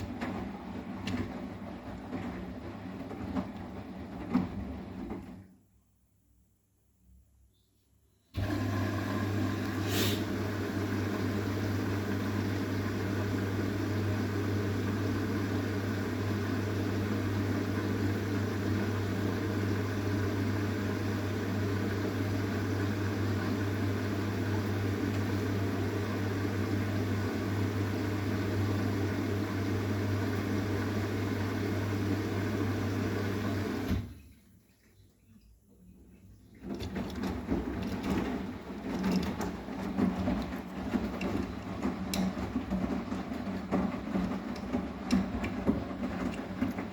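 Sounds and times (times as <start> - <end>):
washing machine humming: 0.0 - 5.8, 8.3 - 34.9, 36.0 - 46.9.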